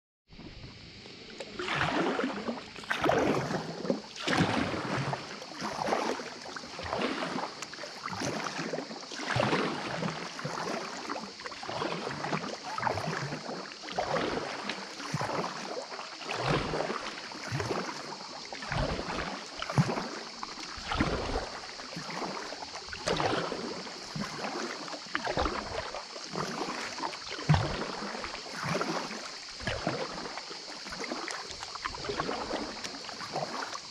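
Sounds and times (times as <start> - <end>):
kayak paddle strokes in water: 0.3 - 33.9.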